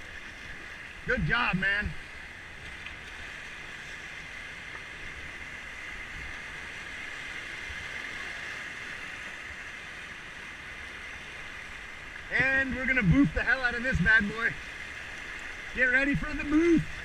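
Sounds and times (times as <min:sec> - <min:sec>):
river whitewater rushing: 0:03.2 - 0:17.0.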